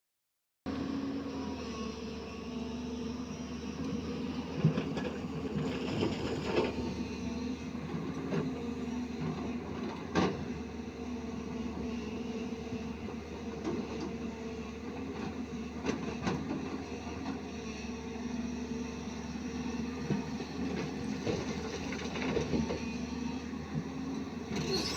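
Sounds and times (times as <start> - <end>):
excavator diesel engine running: 0.7 - 24.9.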